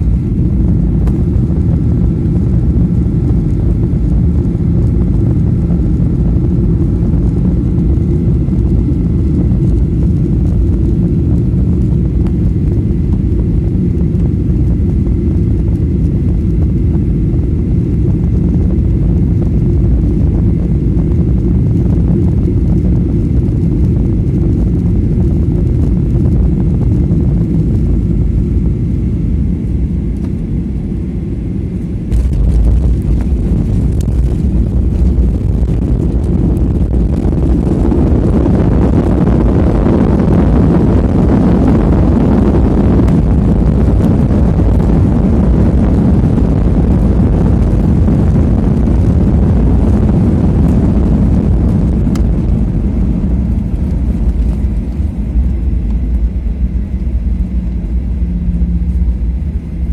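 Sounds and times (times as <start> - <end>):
jet engine roar in cabin: 0.0 - 59.9.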